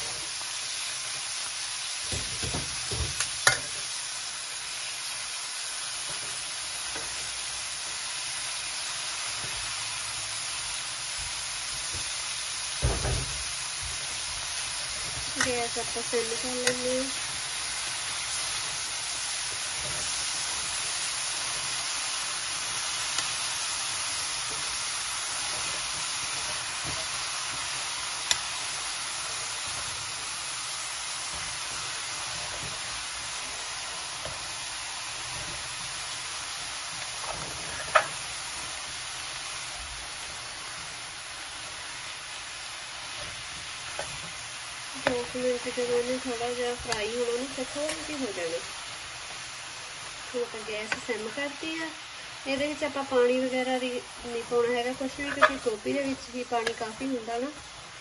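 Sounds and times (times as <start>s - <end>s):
cabbage sizzling in pan: 0.0s - 58.0s.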